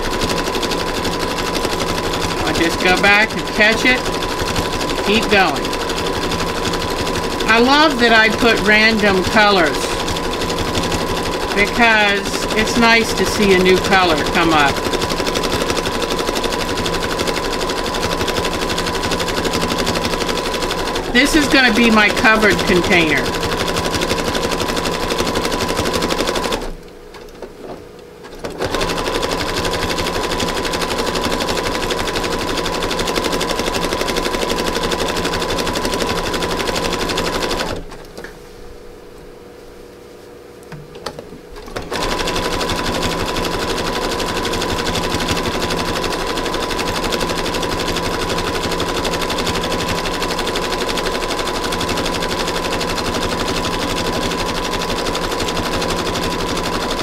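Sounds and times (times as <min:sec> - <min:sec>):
sewing machine stitching: 0:00.0 - 0:26.8, 0:28.3 - 0:38.0, 0:41.6 - 0:57.0.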